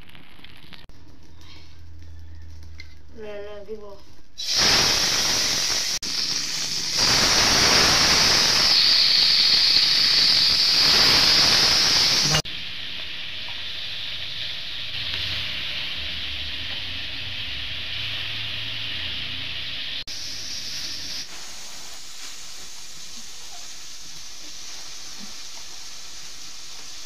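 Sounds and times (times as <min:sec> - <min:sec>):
fish sizzling in oil: 0:00.0 - 0:27.0.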